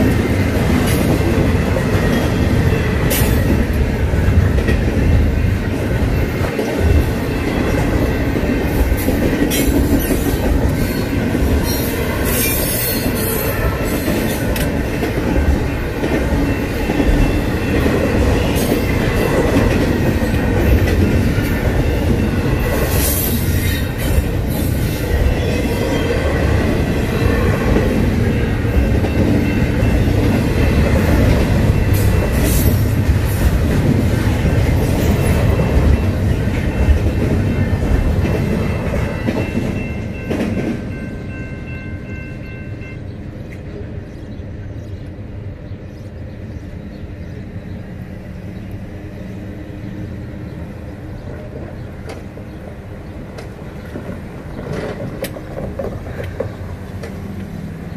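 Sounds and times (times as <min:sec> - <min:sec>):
freight train rumbling and clattering: 0:00.0 - 0:57.9
road traffic: 0:00.0 - 0:57.9.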